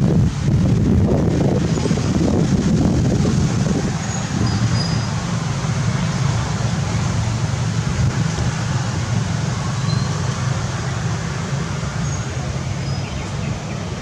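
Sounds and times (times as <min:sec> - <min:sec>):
hiss: 0:00.0 - 0:14.0.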